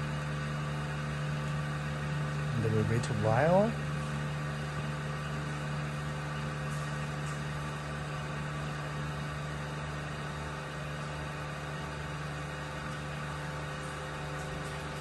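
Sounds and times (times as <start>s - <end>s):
vacuum pump motor humming: 0.0s - 15.0s.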